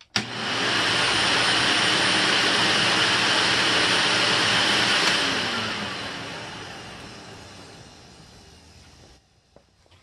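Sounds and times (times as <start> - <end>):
vacuum cleaner motor running: 0.1 - 9.2.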